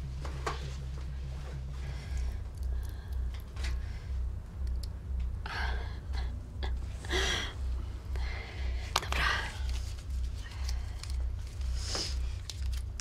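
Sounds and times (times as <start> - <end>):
muffled bass beat: 0.0 - 13.0.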